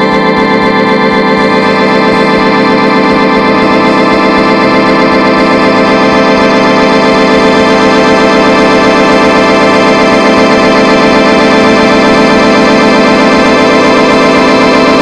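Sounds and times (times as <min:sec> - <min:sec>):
sustained organ chord: 0:00.0 - 0:15.0.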